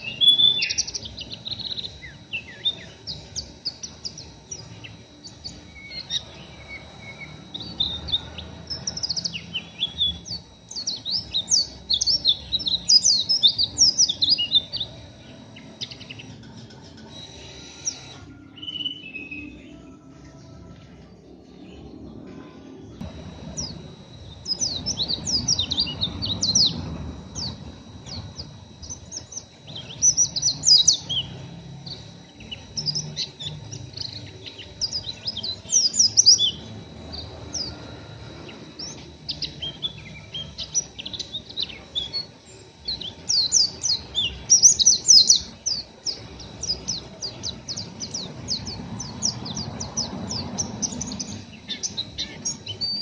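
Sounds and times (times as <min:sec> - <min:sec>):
bird twittering rough chirps: 0:00.0 - 0:19.4, 0:23.0 - 0:53.0.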